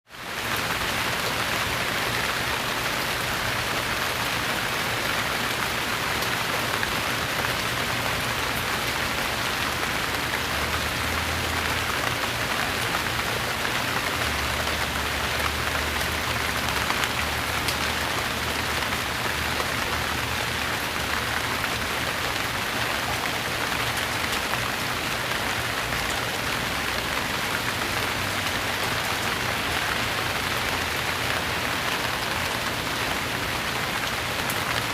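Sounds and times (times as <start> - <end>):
rain pattering: 0.1 - 34.9.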